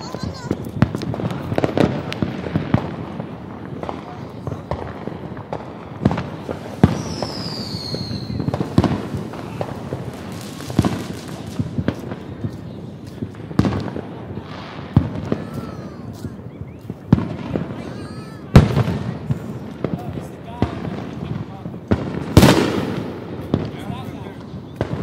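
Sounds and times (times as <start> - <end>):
fireworks bangs: 0.0 - 25.0
whistling firework: 0.0 - 25.0.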